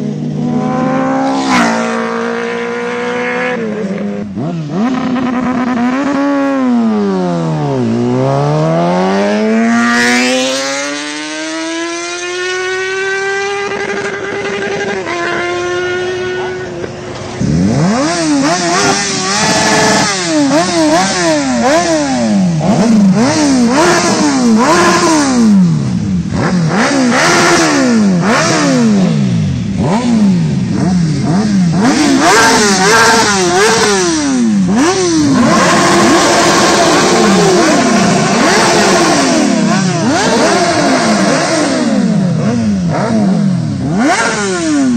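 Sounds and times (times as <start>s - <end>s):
motorcycle engine revving: 0.0s - 44.9s
parked motorcycle engines blipped: 0.0s - 44.9s.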